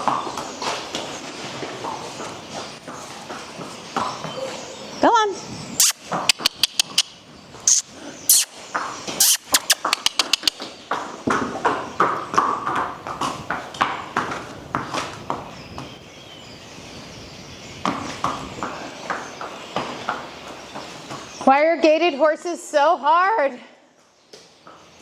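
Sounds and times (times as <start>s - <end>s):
horse hoofbeats trotting: 0.0s - 16.0s, 17.7s - 21.9s.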